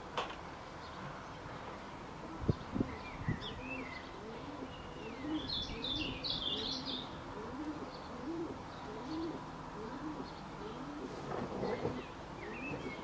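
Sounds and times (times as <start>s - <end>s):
low rising and falling bird calls: 1.8s - 13.0s.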